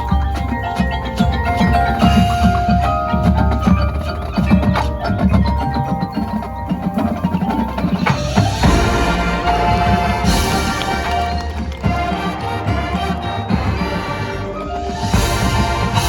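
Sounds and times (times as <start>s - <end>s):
drums: 0.0s - 16.0s
mallet percussion notes: 0.0s - 16.0s.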